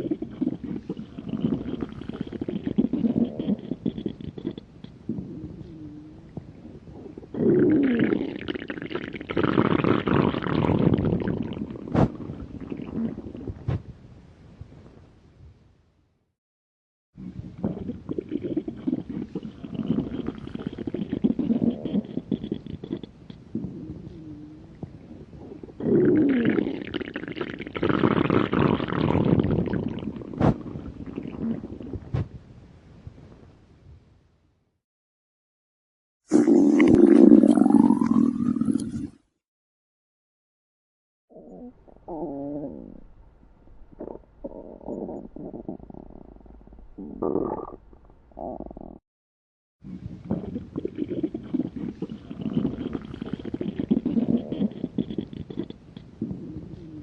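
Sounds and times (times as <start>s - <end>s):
stomach growling: 0.0s - 13.9s, 17.2s - 32.4s, 36.3s - 39.3s, 41.3s - 43.0s, 43.9s - 49.0s, 49.8s - 57.0s.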